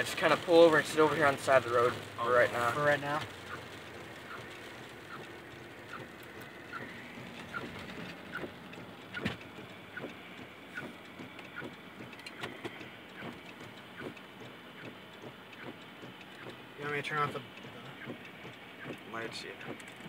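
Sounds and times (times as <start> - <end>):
turn signal ticking: 0.0 - 20.0.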